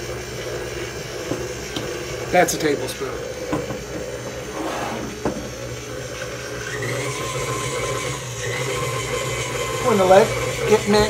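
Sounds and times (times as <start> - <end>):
mixer motor whine: 0.0 - 11.0
stand mixer motor hum: 0.0 - 11.0.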